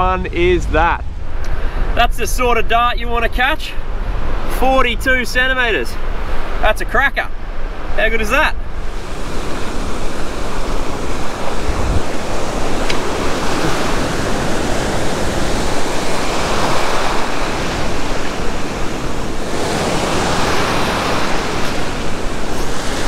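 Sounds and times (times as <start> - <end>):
wind buffeting microphone: 0.0 - 5.2, 7.3 - 23.0
ocean surf breaking: 0.0 - 23.0.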